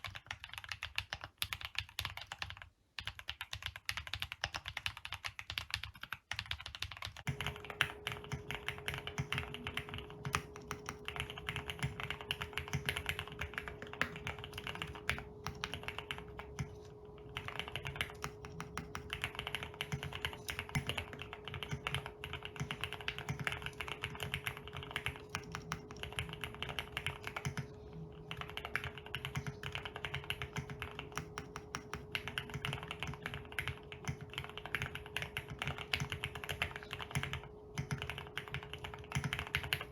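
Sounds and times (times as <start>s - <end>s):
faint steady hum: 0.0s - 39.9s
fast keyboard typing: 0.0s - 39.9s.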